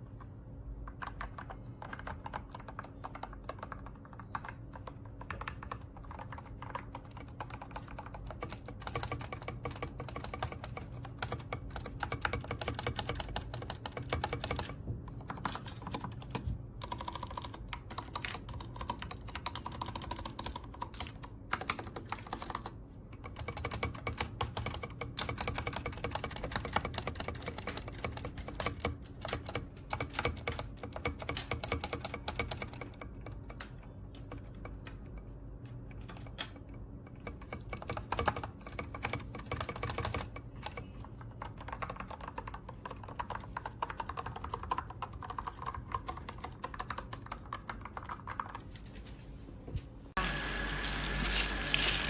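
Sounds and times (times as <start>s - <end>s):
mechanical keyboard keystroke clacks: 0.9s - 48.6s.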